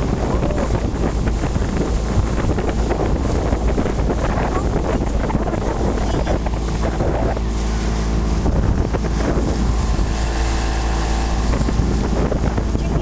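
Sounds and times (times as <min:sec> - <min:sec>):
speedboat engine running: 0:00.0 - 0:13.0
wind buffeting microphone: 0:00.0 - 0:13.0.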